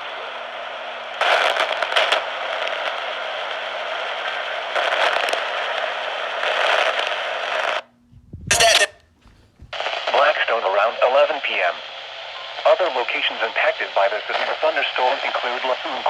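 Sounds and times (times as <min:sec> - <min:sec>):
radio static hiss and crackle: 0:00.0 - 0:07.9, 0:08.5 - 0:16.0.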